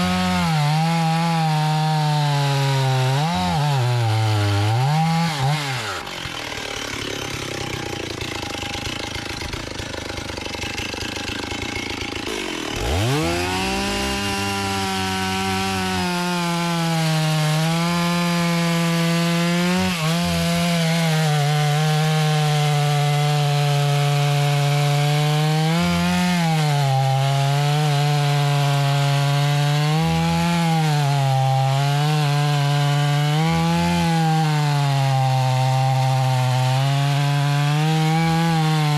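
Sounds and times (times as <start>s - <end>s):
chainsaw cutting wood: 0.0s - 38.9s
chainsaw idling and revving: 0.0s - 38.9s.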